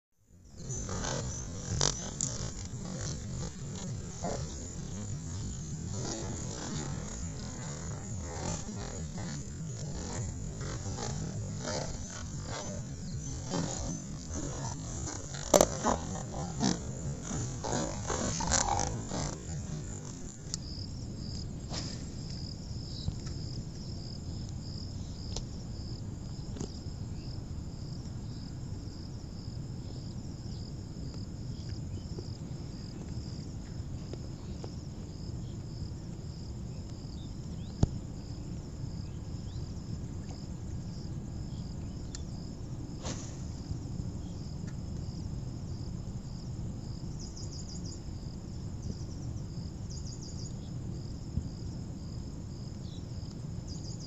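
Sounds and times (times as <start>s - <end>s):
insects chirping in pulses: 0.4s - 54.0s
low steady rumble: 0.4s - 54.0s.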